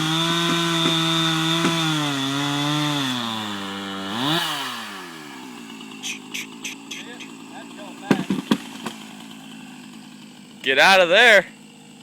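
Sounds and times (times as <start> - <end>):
chainsaw cutting a tree: 0.0 - 12.0.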